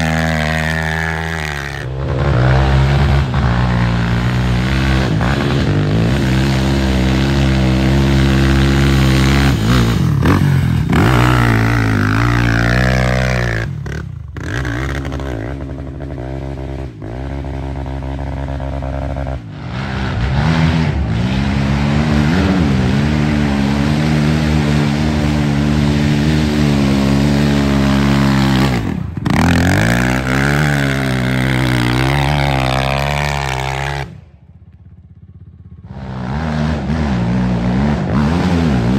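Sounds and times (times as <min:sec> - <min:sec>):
quad engines revving: 0:00.0 - 0:34.4, 0:35.8 - 0:38.9.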